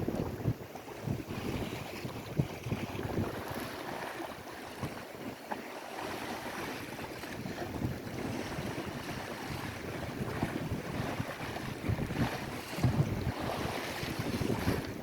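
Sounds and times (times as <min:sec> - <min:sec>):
wind gusting on microphone: 0:00.0 - 0:05.0, 0:06.0 - 0:15.0
lake waves: 0:00.0 - 0:15.0.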